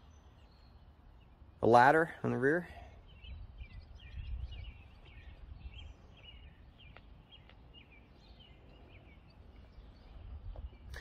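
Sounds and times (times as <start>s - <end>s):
bird chirps: 0.0s - 11.0s.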